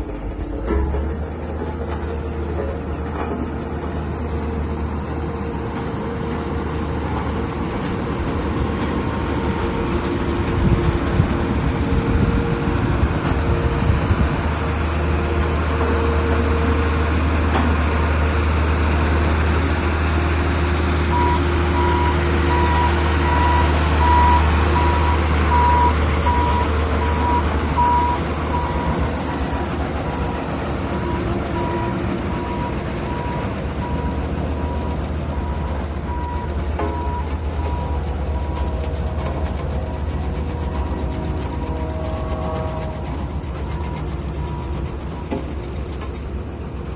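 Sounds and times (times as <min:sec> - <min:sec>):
road roller diesel engine running: 0:00.0 - 0:46.9.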